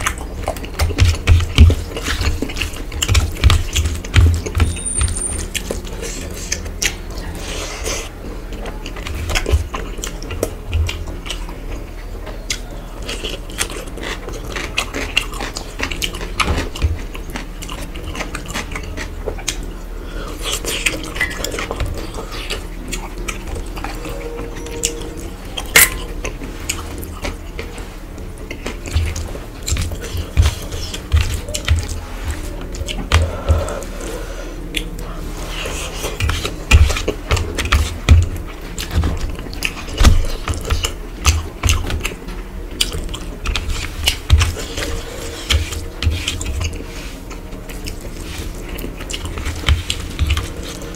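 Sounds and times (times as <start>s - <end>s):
chewing: 0.0s - 50.9s.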